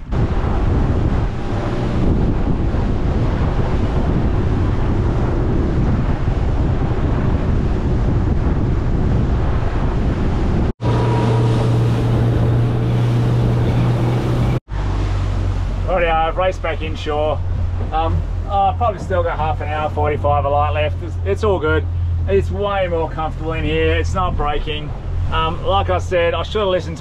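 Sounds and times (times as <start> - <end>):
boat engine humming: 0.0 - 27.0
water rushing and splashing: 0.0 - 27.0
wind buffeting microphone: 0.0 - 27.0.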